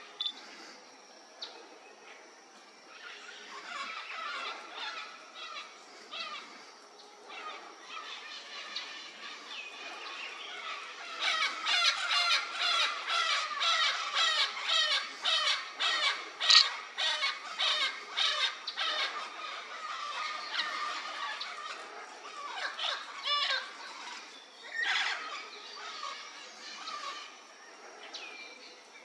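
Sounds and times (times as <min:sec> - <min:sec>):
parrots calling: 0:02.9 - 0:06.5, 0:07.3 - 0:27.4.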